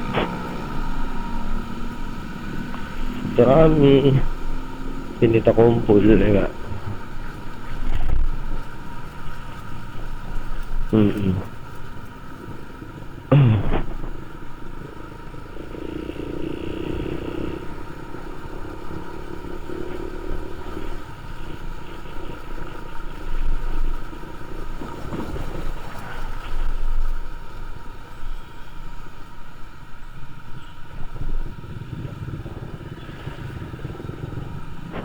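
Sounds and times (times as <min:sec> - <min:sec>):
motorcycle engine and road noise: 0:00.0 - 0:35.0.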